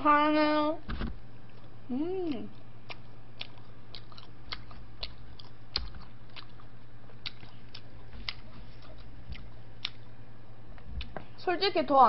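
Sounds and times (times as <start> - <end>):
steady low hum: 0.0 - 12.0
chewing crunchy pizza crust: 1.4 - 11.2.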